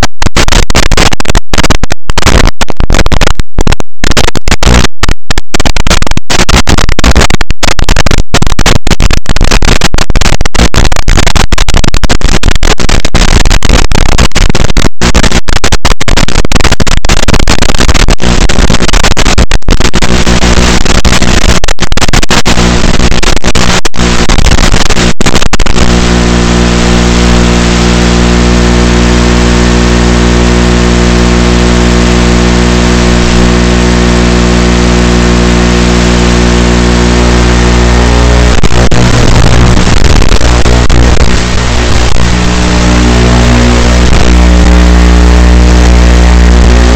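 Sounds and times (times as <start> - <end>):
buzzing hum: 0.0 - 46.9
loud static hiss with crackling: 0.0 - 46.9.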